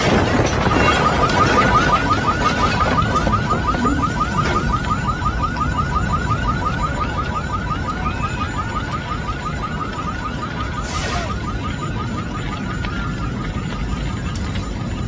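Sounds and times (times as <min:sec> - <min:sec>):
car alarm chirping: 0:00.0 - 0:15.0.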